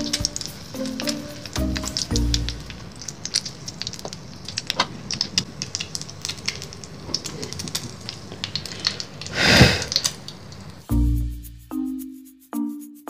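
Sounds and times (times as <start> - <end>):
hot oil crackling and popping: 0.0 - 11.2.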